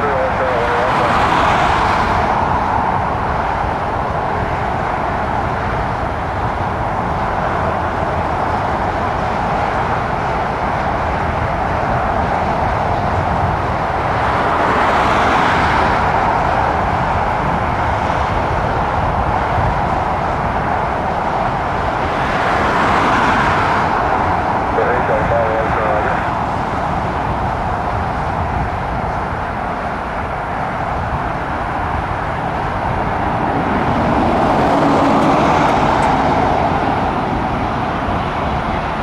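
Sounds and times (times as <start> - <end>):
distant traffic roar: 0.0 - 39.0.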